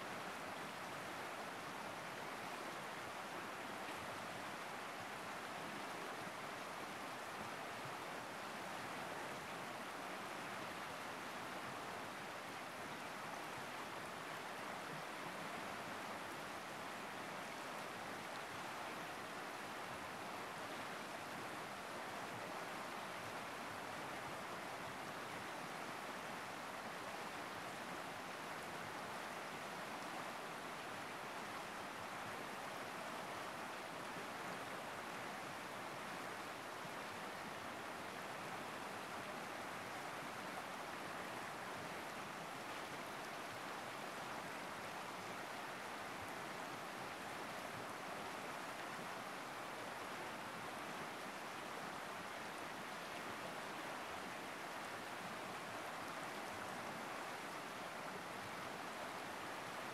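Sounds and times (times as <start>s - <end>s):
river rushing over rapids: 0.0s - 59.9s.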